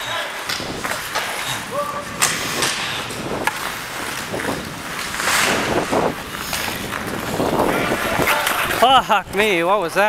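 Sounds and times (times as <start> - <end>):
skates scraping on ice: 0.0 - 9.6.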